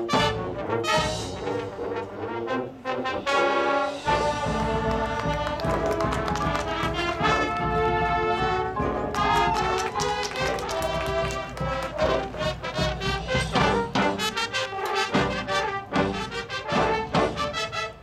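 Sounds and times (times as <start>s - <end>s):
drums: 0.0s - 2.1s, 3.5s - 18.0s
held brass chord: 0.0s - 18.0s
marching band playing: 0.0s - 18.0s.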